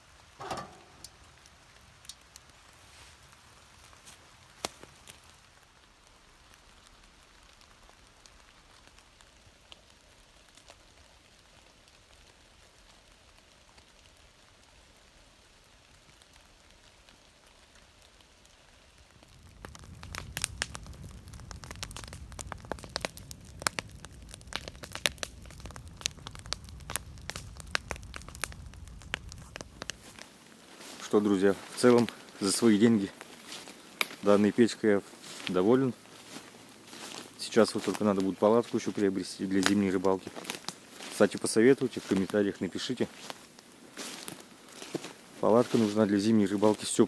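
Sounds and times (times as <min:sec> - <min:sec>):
low fire rumble: 0:00.0 - 0:42.4
firewood crackling and popping: 0:00.0 - 0:47.0.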